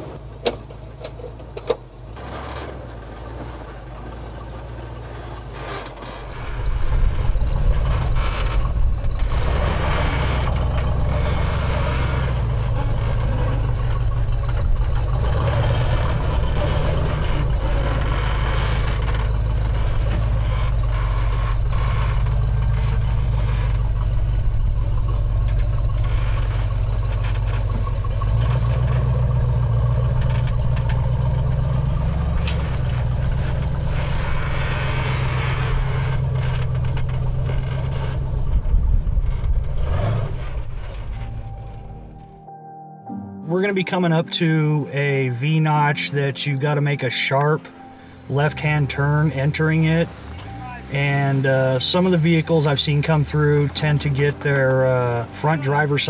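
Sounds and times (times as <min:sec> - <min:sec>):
off-road vehicle engine low revs: 0:00.0 - 0:42.1, 0:48.2 - 0:56.0.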